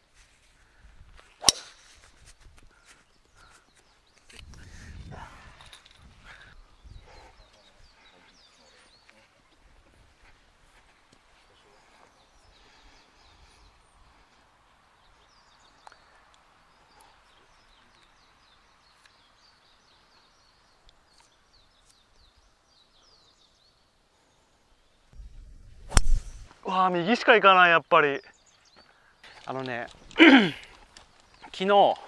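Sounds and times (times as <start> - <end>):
small birds chirping: 1.4 - 32.0.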